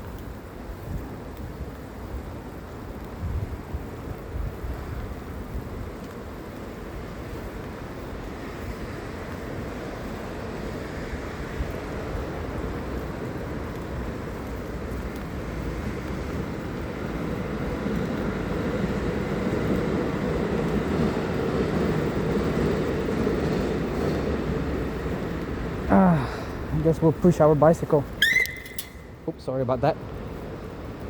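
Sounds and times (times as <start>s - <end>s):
bicycle rumbling along street: 0.0s - 31.0s.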